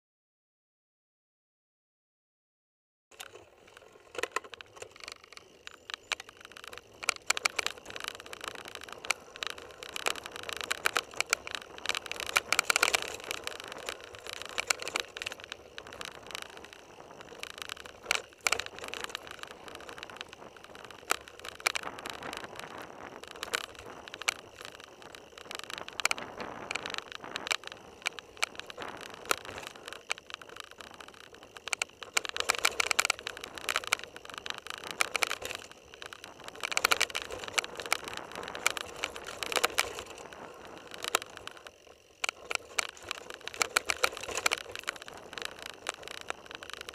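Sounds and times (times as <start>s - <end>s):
bike rattling and knocking: 3.1s - 46.9s
bike tyres rolling on loose ground: 3.1s - 46.9s.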